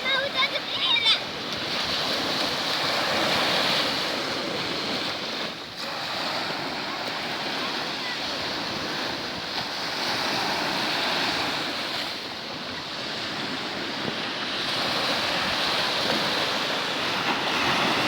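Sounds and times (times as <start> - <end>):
sea surf washing onto beach: 0.0 - 18.0.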